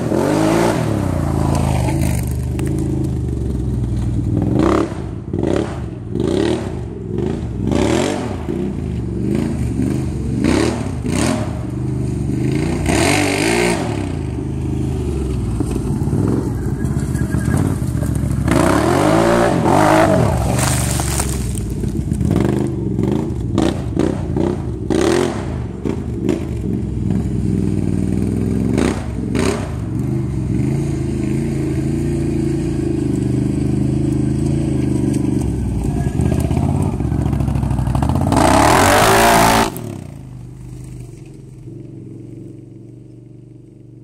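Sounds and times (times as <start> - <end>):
engine revving: 0.0 - 21.5, 22.2 - 40.3.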